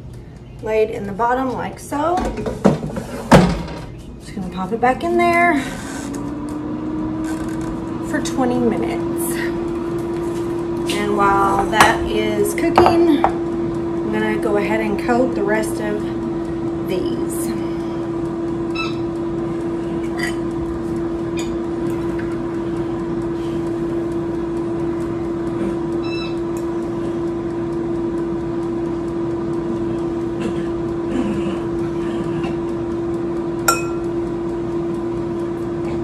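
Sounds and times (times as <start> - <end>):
air fryer fan hum: 0.0 - 36.0.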